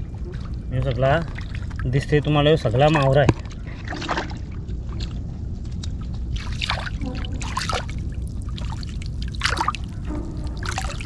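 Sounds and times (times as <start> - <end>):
steady low rumble: 0.0 - 11.0
water splashing and trickling: 0.0 - 11.0.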